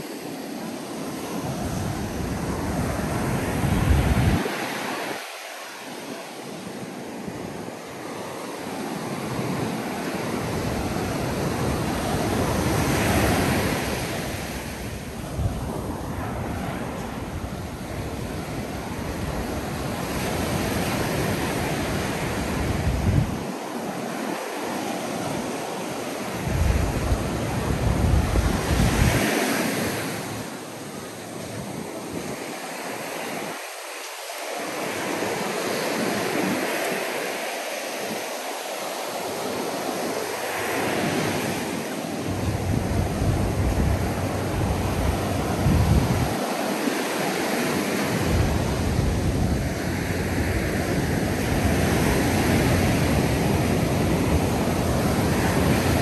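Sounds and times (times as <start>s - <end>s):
wind rumbling on microphone: 0.0s - 5.2s, 5.8s - 33.6s, 38.0s - 56.0s
ocean surf breaking: 0.0s - 56.0s.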